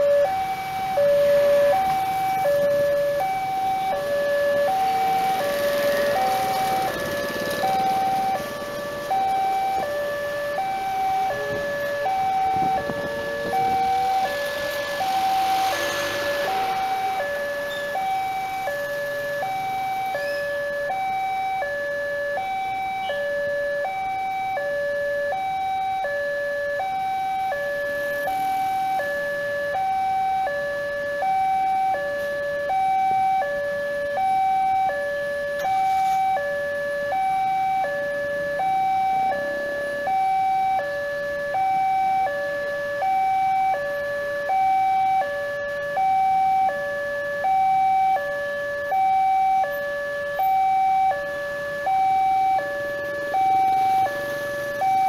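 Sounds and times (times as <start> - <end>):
faint road traffic: 0.0 - 55.0
two-tone crossing alarm: 0.0 - 55.0.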